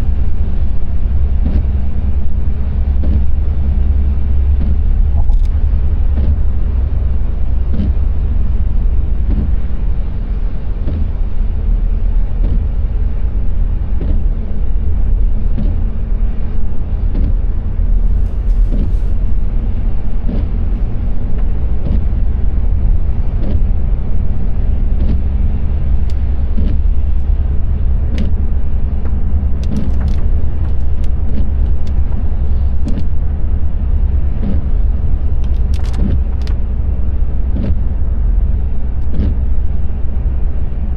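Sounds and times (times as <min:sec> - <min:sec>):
car tyres on wet road: 0:00.0 - 0:40.9.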